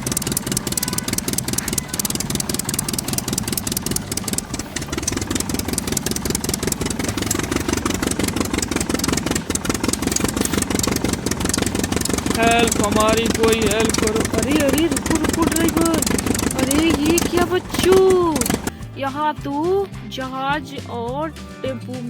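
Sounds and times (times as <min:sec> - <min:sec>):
vehicle engine chugging: 0:00.0 - 0:19.7.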